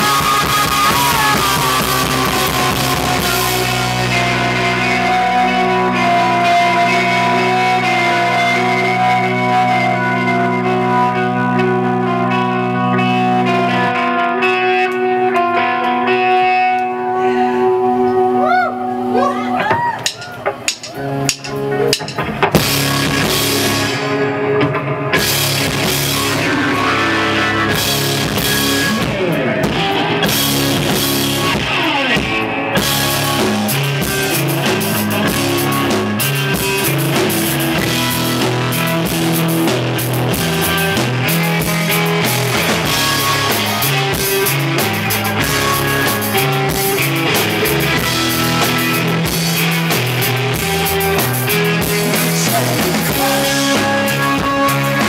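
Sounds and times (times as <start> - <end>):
drum kit: 0.0 - 14.1, 19.2 - 55.0
electric guitars: 0.0 - 55.0.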